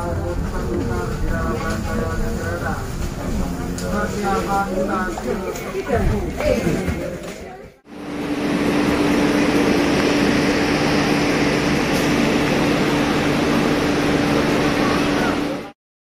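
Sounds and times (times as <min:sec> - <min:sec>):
train machinery humming: 0:00.0 - 0:15.8.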